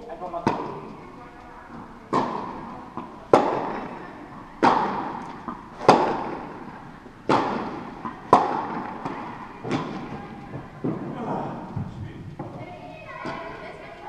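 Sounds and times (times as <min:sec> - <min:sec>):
rackets hitting tennis ball: 0:00.3 - 0:13.8
tennis ball bouncing: 0:00.4 - 0:01.1, 0:01.7 - 0:12.6.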